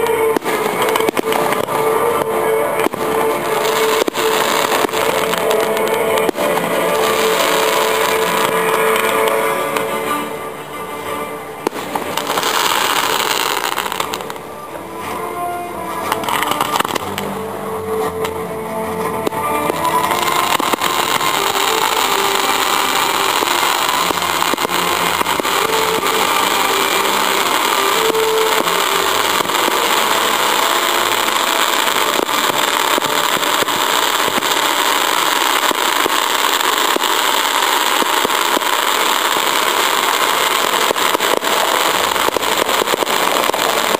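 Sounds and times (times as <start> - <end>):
fireworks crackling: 0.0 - 43.9.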